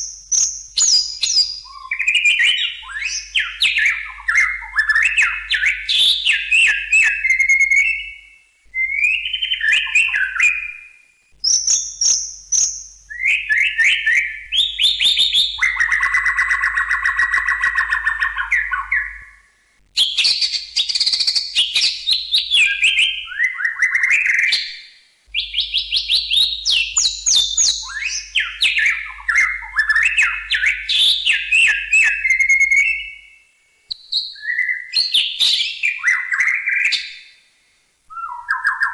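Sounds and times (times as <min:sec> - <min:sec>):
bird singing whistles and chatter: 0:00.0 - 0:19.4, 0:20.0 - 0:37.2, 0:38.1 - 0:38.9.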